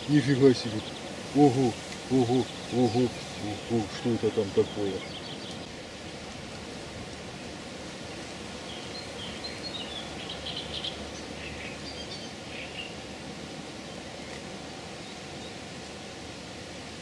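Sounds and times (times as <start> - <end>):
steady outdoor background hiss: 0.0 - 17.0.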